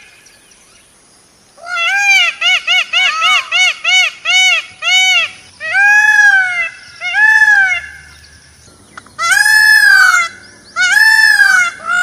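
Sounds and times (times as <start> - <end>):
peafowl calling: 1.6 - 12.0.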